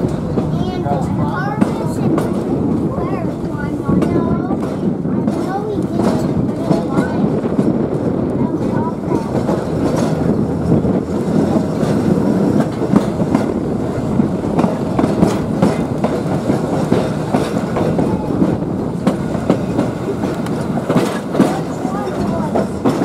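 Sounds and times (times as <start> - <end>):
train running gear rumble: 0.0 - 23.0
wheels clicking over rail joints: 0.0 - 23.0.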